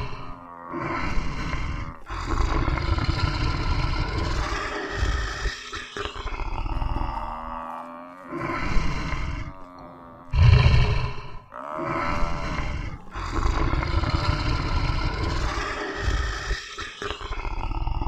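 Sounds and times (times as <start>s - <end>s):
animal roars: 0.0s - 18.0s.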